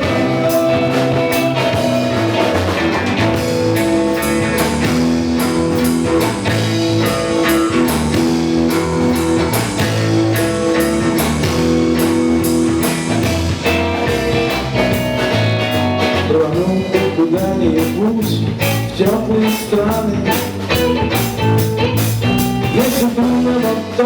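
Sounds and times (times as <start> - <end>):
bass guitar: 0.0 - 24.0
drum kit beat: 0.0 - 24.0
electric guitar: 0.0 - 24.0.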